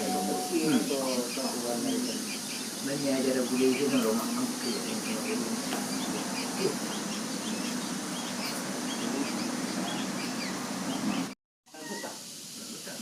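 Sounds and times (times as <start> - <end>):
steady background hum: 0.0 - 11.3
small birds chirping: 0.0 - 13.0.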